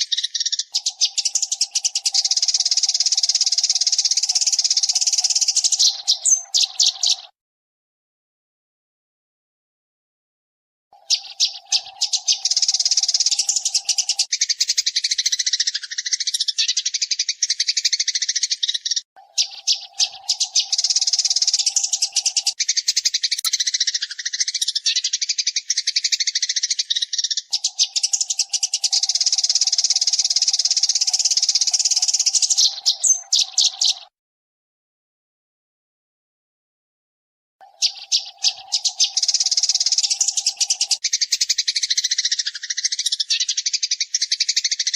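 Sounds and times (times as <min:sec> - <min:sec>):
sparrows chirping: 0:00.0 - 0:07.4, 0:11.0 - 0:34.2, 0:37.6 - 0:44.9.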